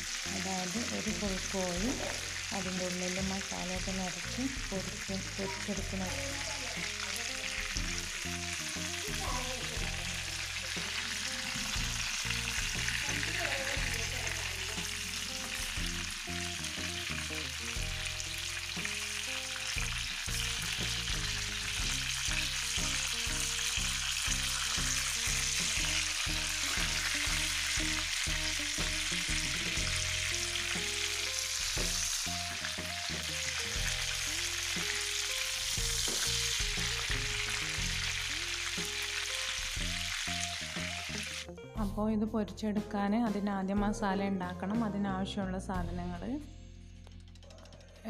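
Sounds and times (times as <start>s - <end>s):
oil sizzling in a pan: 0.0s - 41.5s
background music with bass line: 0.0s - 47.4s.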